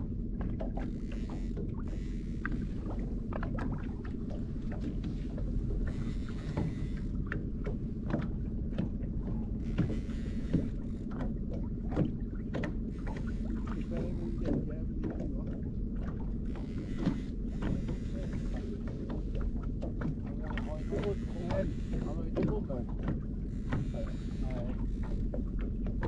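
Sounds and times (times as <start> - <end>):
outboard motor droning: 0.0 - 26.0.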